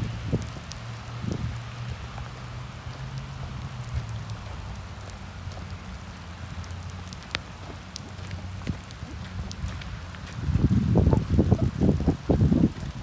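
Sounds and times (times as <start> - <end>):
rain on wet pavement: 0.0 - 13.0.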